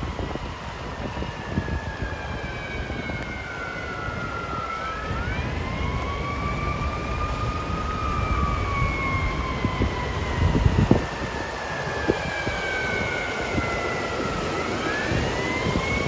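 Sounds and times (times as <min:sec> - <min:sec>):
emergency siren wailing: 0:00.0 - 0:16.0
floodwater rushing: 0:00.0 - 0:16.0
second siren tone: 0:00.0 - 0:16.0.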